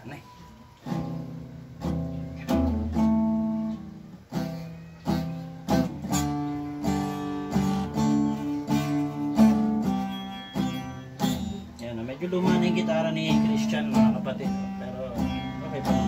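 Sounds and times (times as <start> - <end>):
acoustic guitar strumming chords: 0.8 - 16.0.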